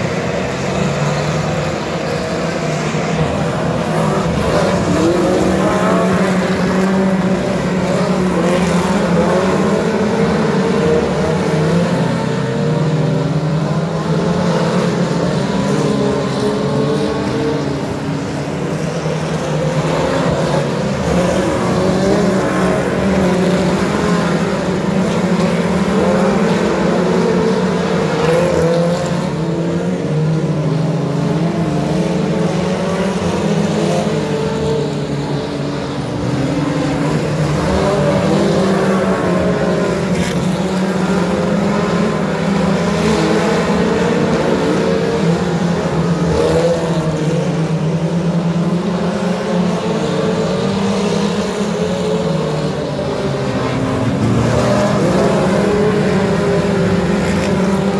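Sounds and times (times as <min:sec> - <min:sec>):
race car engines: 0:00.0 - 0:57.9.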